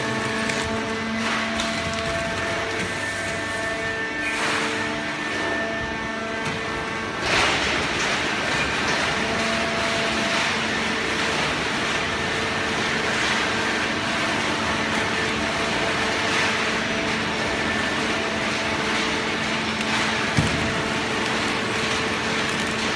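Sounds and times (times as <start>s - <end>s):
hydraulic baler mechanical hum: 0.0s - 22.9s.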